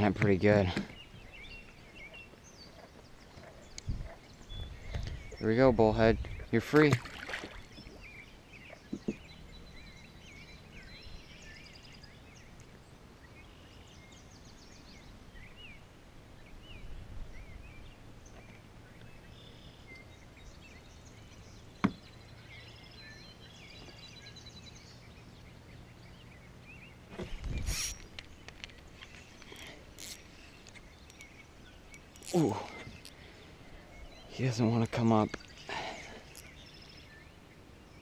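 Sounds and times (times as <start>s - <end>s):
birdsong chirps and trills: 0.0s - 38.0s.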